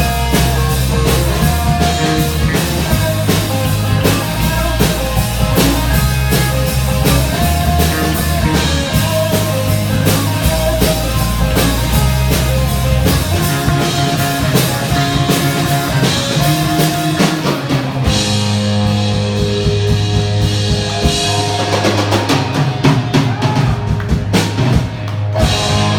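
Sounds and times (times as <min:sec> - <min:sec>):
instrumental rock music: 0:00.0 - 0:25.9.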